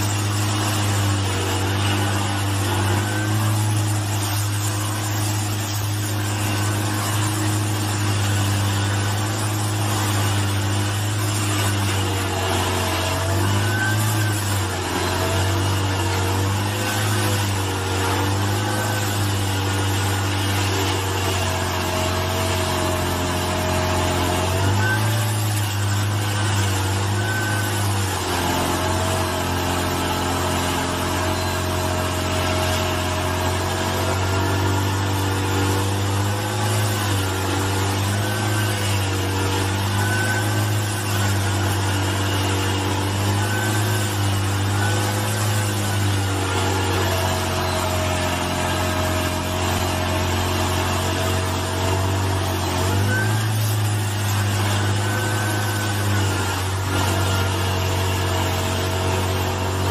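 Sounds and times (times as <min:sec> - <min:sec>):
stump grinder grinding: 0:00.0 - 0:59.9.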